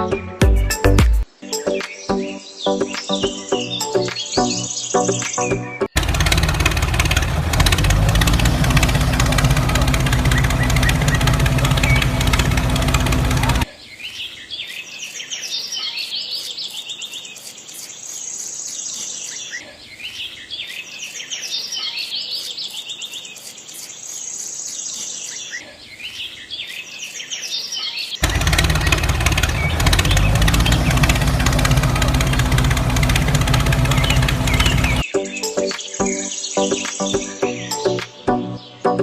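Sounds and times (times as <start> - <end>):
bird chirps and song: 0.0 - 6.0, 10.2 - 39.0.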